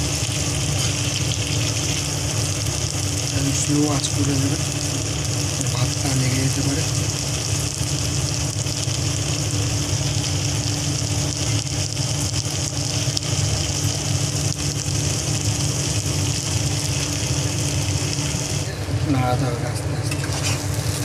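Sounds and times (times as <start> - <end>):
constant hiss: 0.0 - 21.0
low mechanical hum: 0.0 - 21.0.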